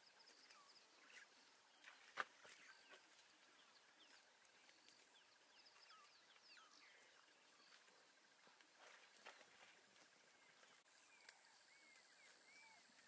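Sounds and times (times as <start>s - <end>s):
small birds chirping and whistling: 0.0s - 13.0s.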